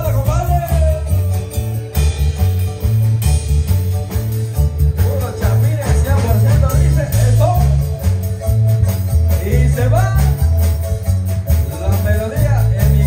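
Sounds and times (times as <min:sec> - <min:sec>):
heavy bass and drum beat: 0:00.0 - 0:13.0
keyboard: 0:00.0 - 0:13.0
live band music: 0:00.0 - 0:13.0.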